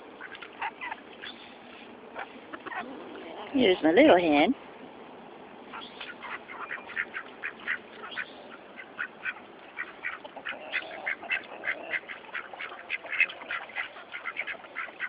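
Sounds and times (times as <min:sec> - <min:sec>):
ducks quacking: 0:00.2 - 0:03.8, 0:05.7 - 0:15.0.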